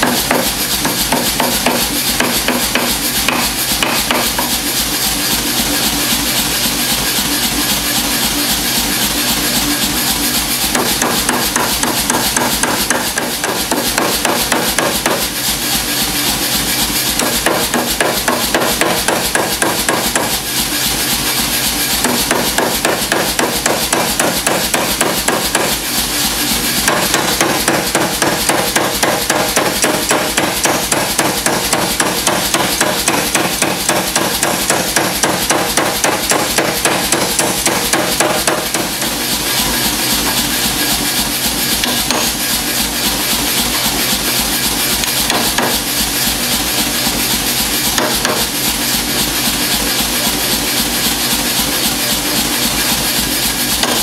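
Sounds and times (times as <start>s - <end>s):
power hammer striking hot steel: 0.0s - 54.0s.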